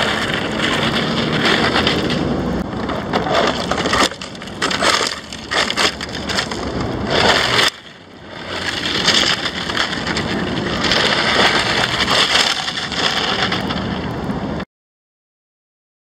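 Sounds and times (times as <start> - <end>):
tyres crunching on gravel: 0.0 - 14.6.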